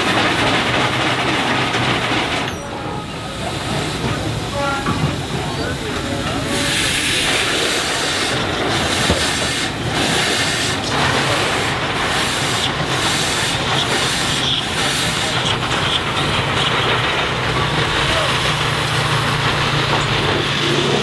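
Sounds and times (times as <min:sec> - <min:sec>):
loud hiss of steam: 0:00.0 - 0:21.0.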